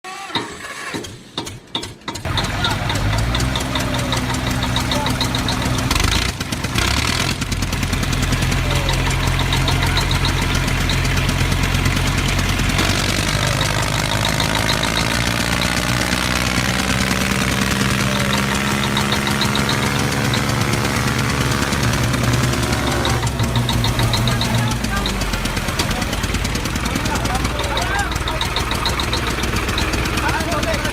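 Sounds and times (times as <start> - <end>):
tractor engine running: 0.1 - 30.9.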